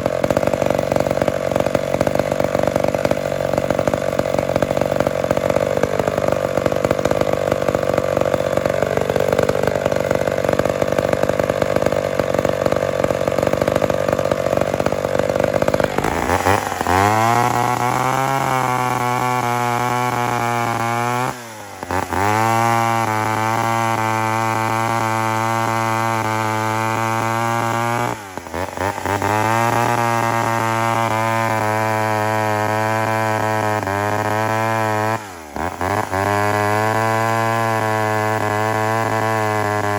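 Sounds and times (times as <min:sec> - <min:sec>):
chainsaw engine: 0:00.0 - 0:39.9.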